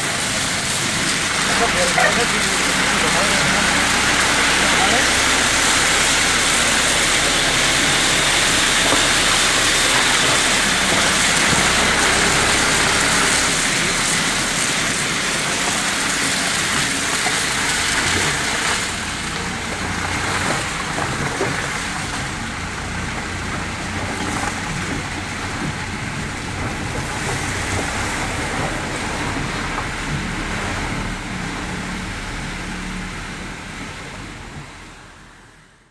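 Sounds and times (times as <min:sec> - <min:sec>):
tyres hissing on water: 0:00.0 - 0:35.0
engine rumble: 0:00.0 - 0:35.9.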